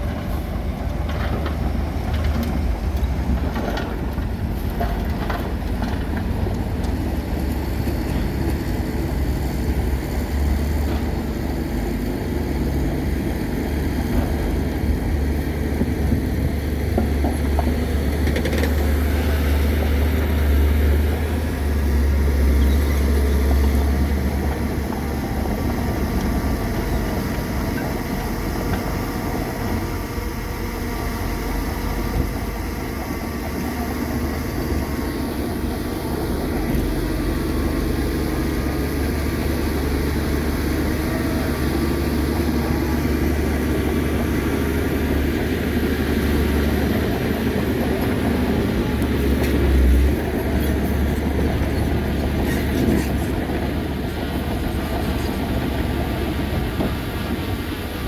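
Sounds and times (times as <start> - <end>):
bulldozer diesel engine drone: 0.0 - 58.0.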